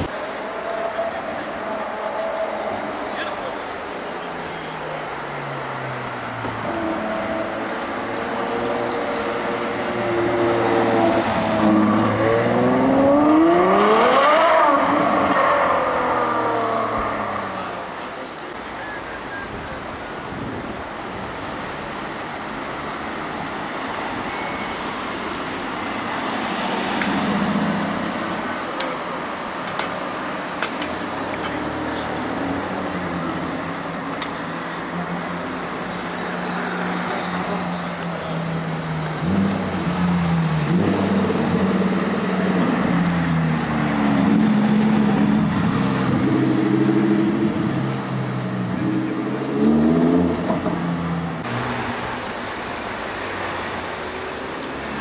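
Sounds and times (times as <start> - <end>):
street traffic: 0.0 - 55.0.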